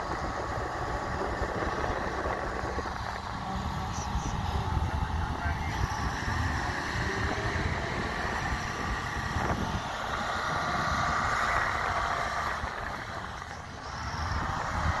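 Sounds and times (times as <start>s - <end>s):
steady engine drone: 0.0s - 15.0s
wind rumble on microphone: 0.0s - 15.0s.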